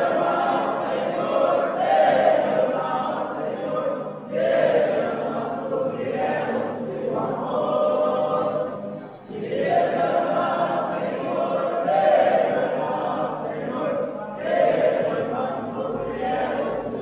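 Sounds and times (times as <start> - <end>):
group singing a hymn in chorus: 0.0 - 17.0.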